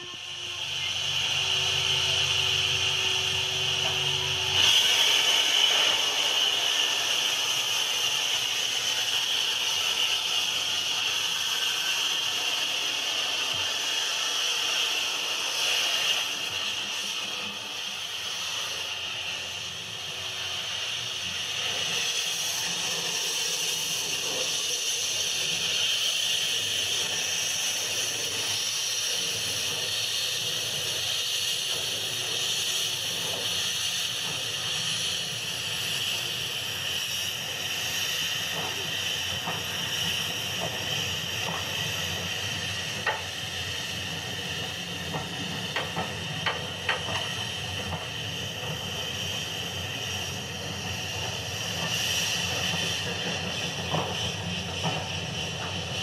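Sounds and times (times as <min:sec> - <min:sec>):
steam hissing: 0:00.0 - 0:56.0
steam locomotive beats: 0:00.0 - 0:56.0.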